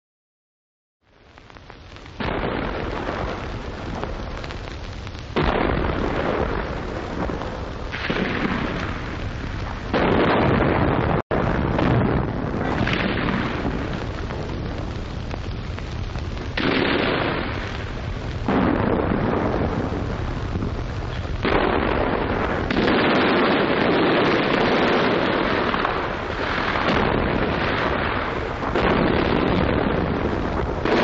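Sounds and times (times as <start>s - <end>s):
gunfire bangs and explosions: 2.2s - 4.2s, 5.4s - 14.9s, 15.5s - 31.0s.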